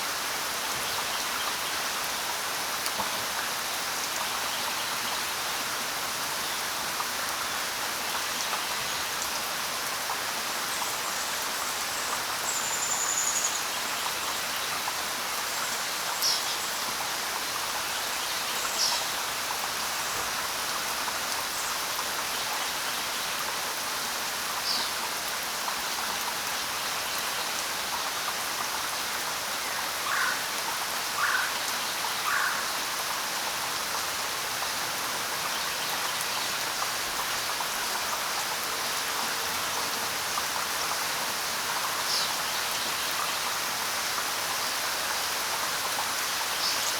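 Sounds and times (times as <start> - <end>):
steady rain hiss: 0.0 - 46.9.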